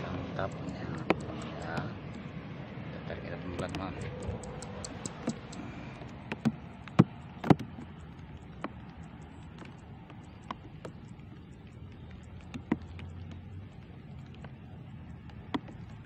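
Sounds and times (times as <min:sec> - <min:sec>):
sharp clicks and knocks: 0:00.3 - 0:02.2, 0:03.5 - 0:16.0.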